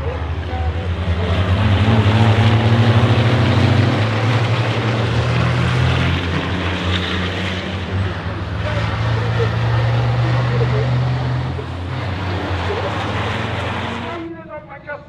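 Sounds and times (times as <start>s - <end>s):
diesel truck engines racing: 0.0s - 15.0s.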